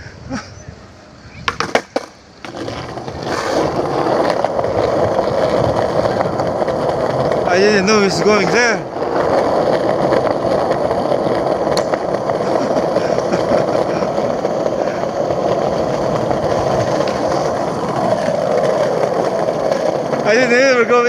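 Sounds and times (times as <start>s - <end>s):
skateboard wheels rolling on pavement: 0.0s - 21.0s.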